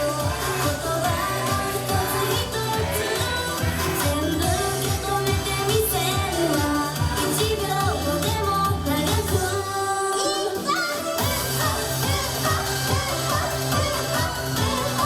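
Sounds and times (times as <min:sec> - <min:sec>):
pulsing bass line: 0:00.0 - 0:09.6, 0:11.2 - 0:15.0
pop song singing: 0:00.0 - 0:15.0.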